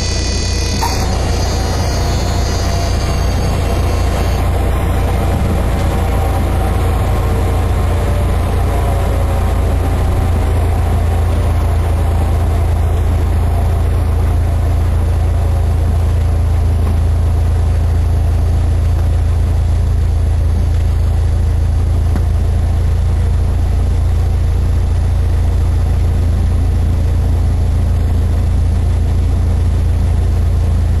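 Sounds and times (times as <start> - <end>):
light aircraft engine droning: 0.0 - 31.0.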